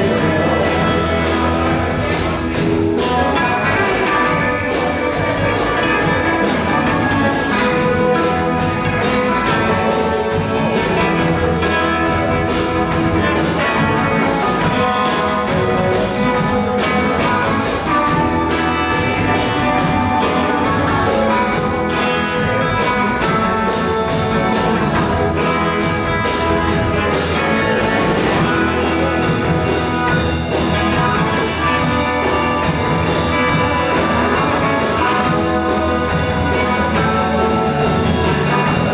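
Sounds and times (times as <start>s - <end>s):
blues harmonica lead: 0.0s - 38.9s
electric blues band playing: 0.0s - 38.9s.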